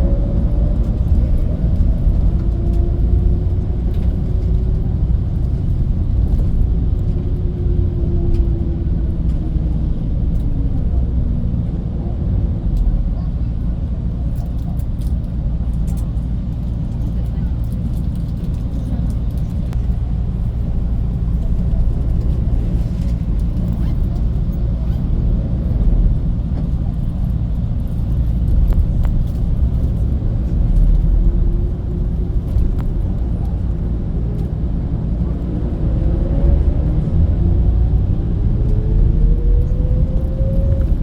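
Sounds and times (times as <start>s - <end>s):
bus running on road: 0.0s - 41.0s.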